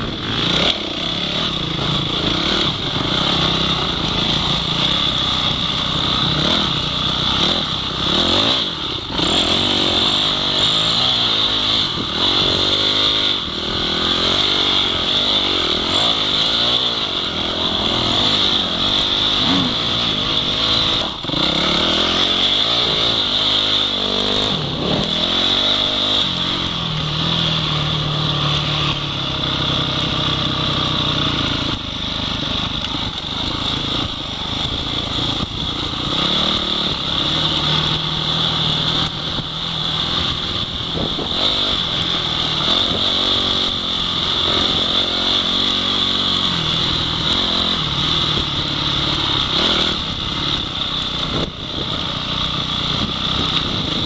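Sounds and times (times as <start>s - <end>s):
off-road motorcycle engine revving: 0.0s - 54.0s.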